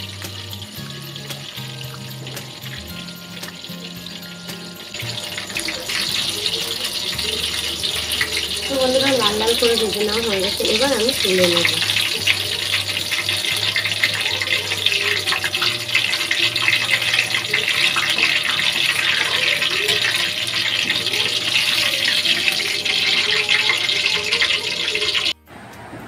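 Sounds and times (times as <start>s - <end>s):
deep-frying sizzle and crackle: 0.0s - 25.4s.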